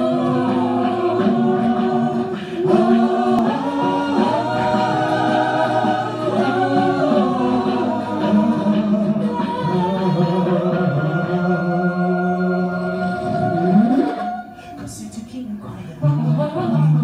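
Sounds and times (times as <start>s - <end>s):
a cappella group singing harmony: 0.0s - 14.8s.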